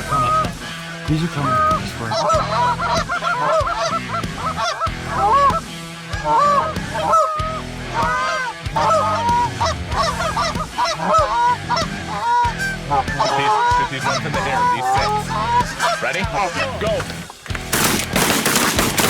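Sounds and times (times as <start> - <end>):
geese honking and clucking: 0.0 - 19.0.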